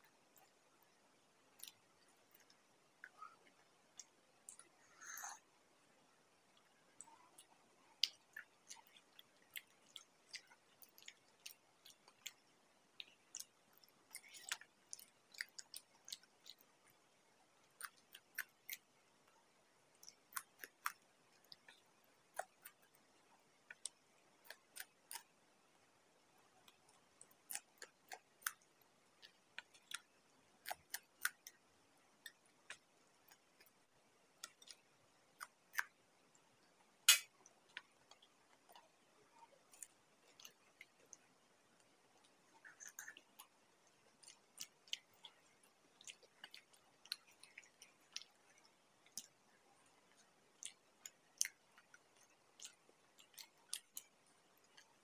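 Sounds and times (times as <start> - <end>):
chewing and crunching food: 0.0 - 5.5, 6.5 - 55.0.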